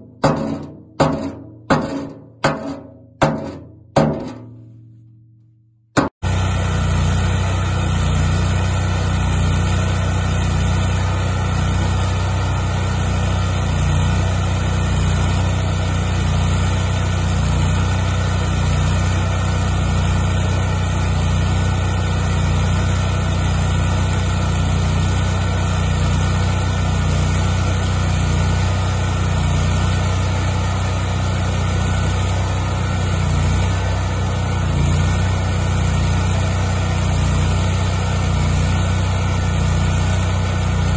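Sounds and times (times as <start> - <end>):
engine-driven welder humming: 6.0 - 40.9.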